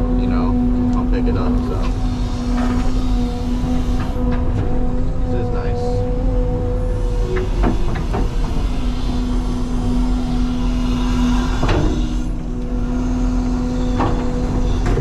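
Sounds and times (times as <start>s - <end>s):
excavator engine rumbling: 0.0s - 15.0s.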